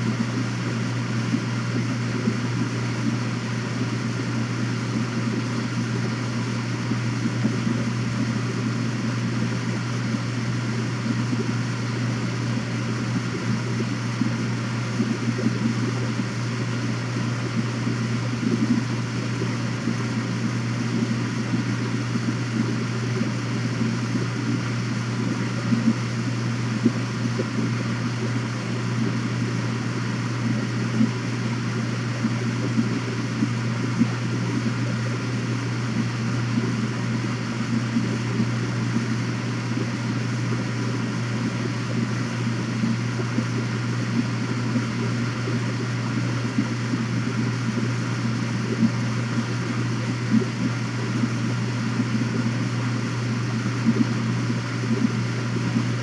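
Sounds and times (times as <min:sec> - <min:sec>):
fluttering rumble: 0:00.0 - 0:56.0
low mechanical hum: 0:00.0 - 0:56.0.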